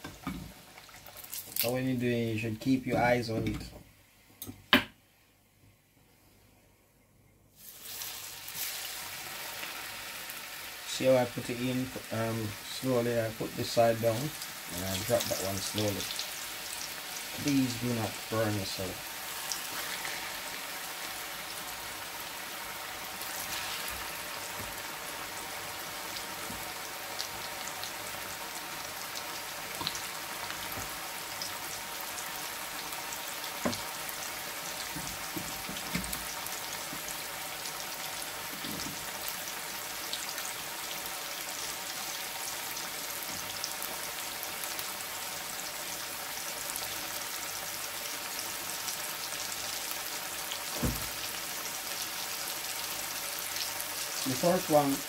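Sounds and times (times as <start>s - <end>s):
oil sizzling: 0.0s - 2.0s, 7.6s - 55.0s.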